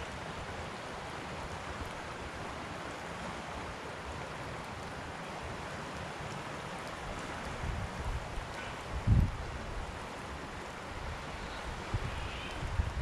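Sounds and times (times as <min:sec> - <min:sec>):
flooded creek rushing: 0:00.0 - 0:13.0.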